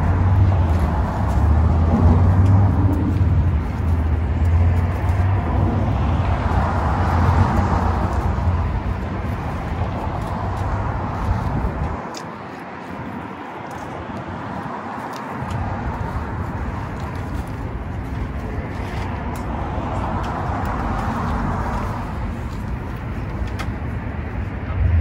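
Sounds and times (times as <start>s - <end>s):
car passing: 0.0s - 25.0s
road traffic rumble: 0.0s - 25.0s.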